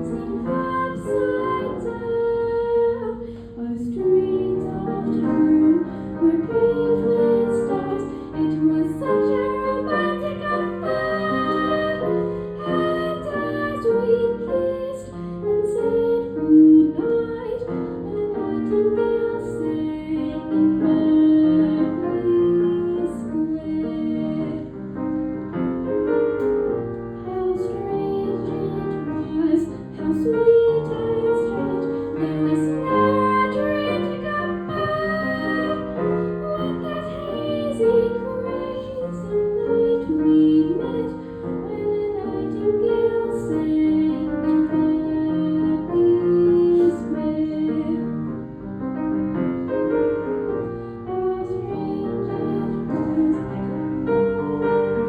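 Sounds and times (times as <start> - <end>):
woman singing a ballad: 0.0 - 24.9, 27.2 - 48.4, 50.2 - 55.0
piano accompaniment: 0.0 - 55.0.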